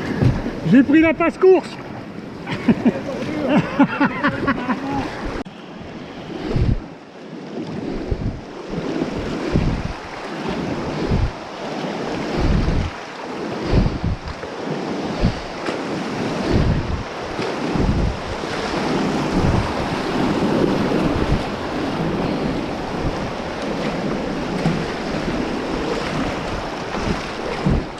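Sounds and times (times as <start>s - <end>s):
wind buffeting microphone: 0.0s - 1.2s, 1.8s - 27.9s.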